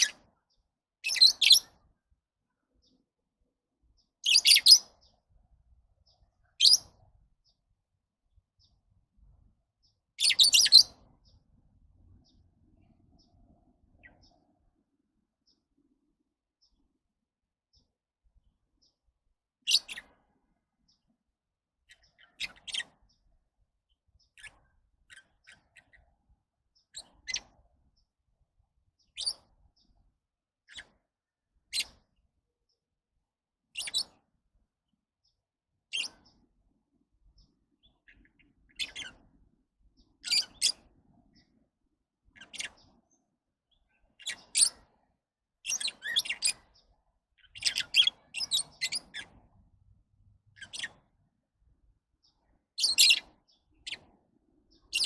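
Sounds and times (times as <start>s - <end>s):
lovebirds chirping: 0.0s - 3.1s, 3.8s - 16.9s, 18.8s - 21.2s, 21.8s - 32.8s, 33.7s - 34.3s, 35.2s - 55.0s.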